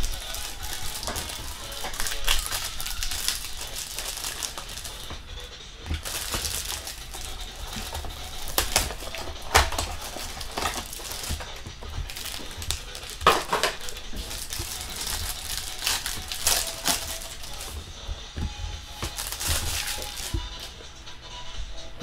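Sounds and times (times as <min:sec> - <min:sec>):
plastic wrappers crinkling and tearing: 0:00.0 - 0:20.8.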